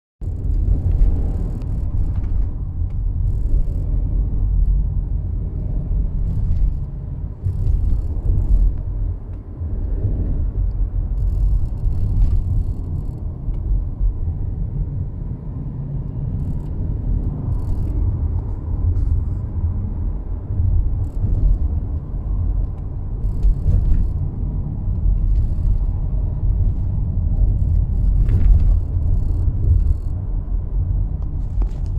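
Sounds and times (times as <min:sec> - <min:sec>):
road and tyre rumble: 0:00.2 - 0:31.9.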